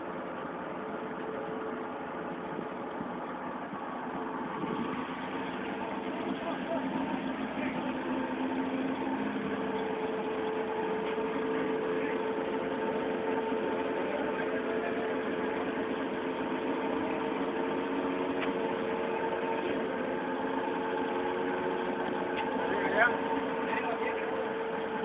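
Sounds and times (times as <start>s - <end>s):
forklift engines idling: 0.0s - 25.0s.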